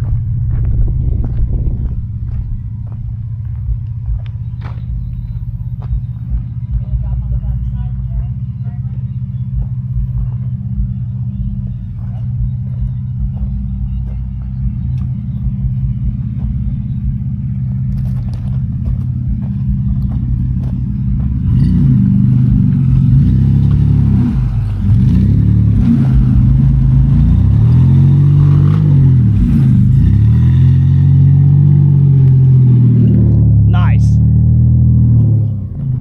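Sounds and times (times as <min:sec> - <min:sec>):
off-road vehicle engine revving: 0:00.0 - 0:36.0.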